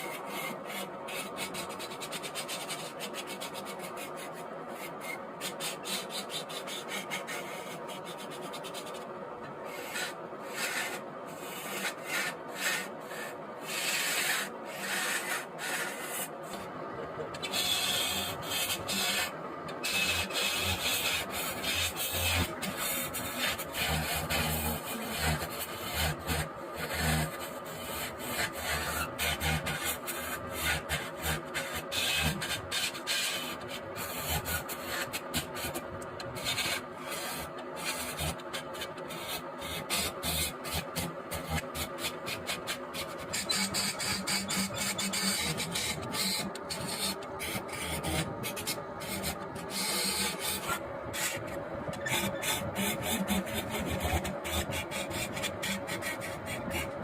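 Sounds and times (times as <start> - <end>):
wood lathe cutting: 9.7 - 16.6, 17.4 - 57.0.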